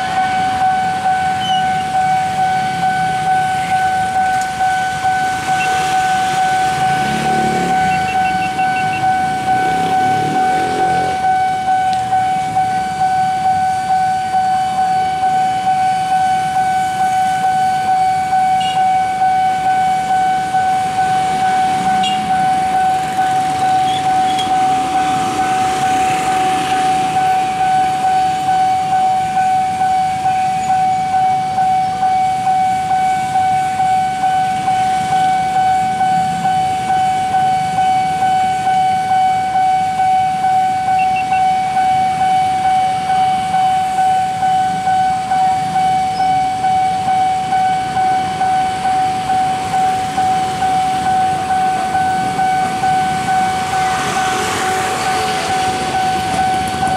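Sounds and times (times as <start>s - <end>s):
level crossing alarm ringing: 0.0s - 56.9s.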